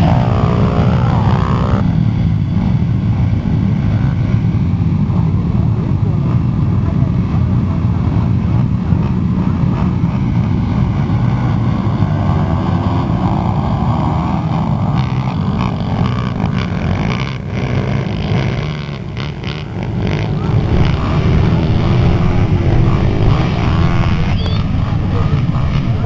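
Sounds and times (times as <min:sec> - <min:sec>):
pit bike engines revving: 0:00.0 - 0:26.0.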